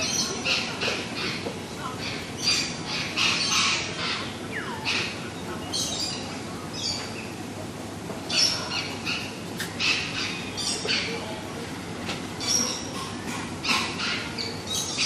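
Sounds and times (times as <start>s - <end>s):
birds squawking and chirping: 0.0s - 7.5s, 8.2s - 11.5s, 12.3s - 15.0s.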